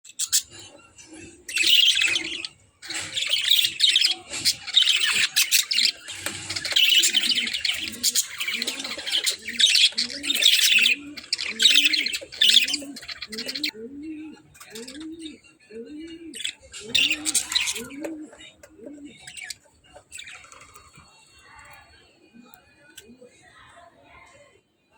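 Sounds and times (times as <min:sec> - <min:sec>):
small parrots chirping and chattering: 0:00.0 - 0:24.4.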